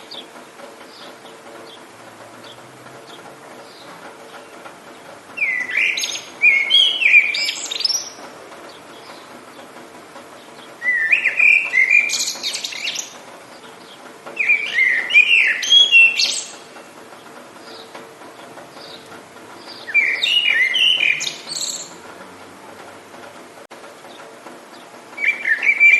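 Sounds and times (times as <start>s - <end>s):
songbird warbling: 0.0s - 9.8s, 10.4s - 22.2s, 24.8s - 25.9s
rain hiss: 0.0s - 25.9s.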